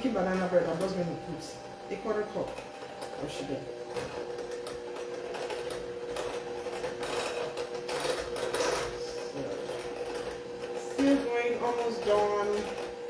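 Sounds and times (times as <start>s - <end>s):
electric hand mixer whirring: 0.0s - 13.0s.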